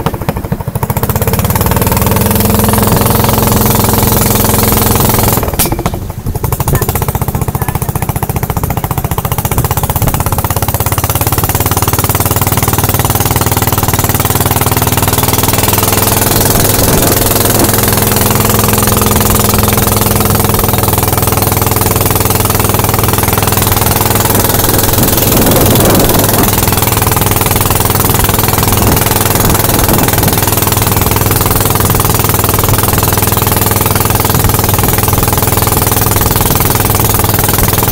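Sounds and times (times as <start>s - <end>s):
boat engine running: 0.0s - 37.9s
water rushing along hull: 0.0s - 37.9s.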